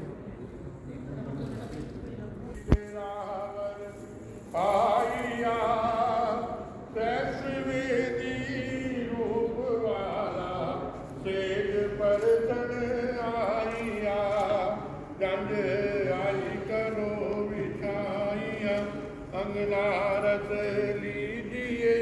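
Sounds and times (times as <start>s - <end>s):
man chanting: 2.7s - 22.0s.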